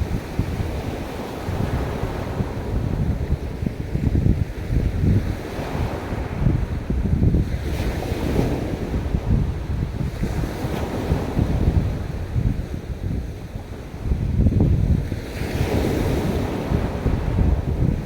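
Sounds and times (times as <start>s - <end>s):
waves breaking on beach: 0.0s - 18.0s
wind buffeting microphone: 0.0s - 18.0s.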